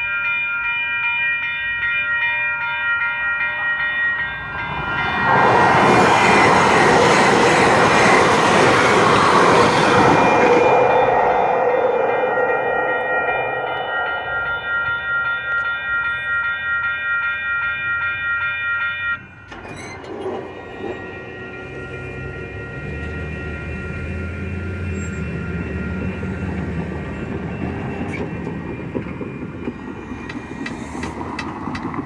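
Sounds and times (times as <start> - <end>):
railroad crossing bell ringing: 0.0 - 32.0.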